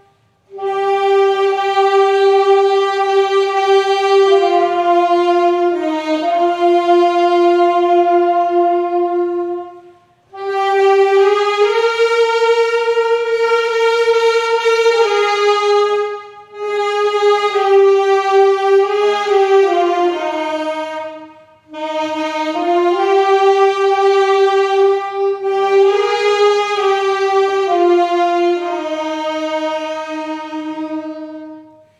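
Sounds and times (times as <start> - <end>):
solo wind instrument playing hymn: 0.0 - 31.9.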